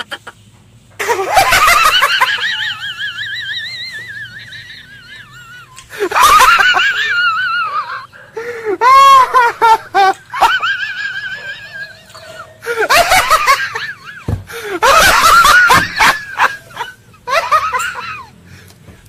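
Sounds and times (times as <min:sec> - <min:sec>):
high-pitched cackling laughs: 0:00.0 - 0:00.4, 0:01.0 - 0:18.3.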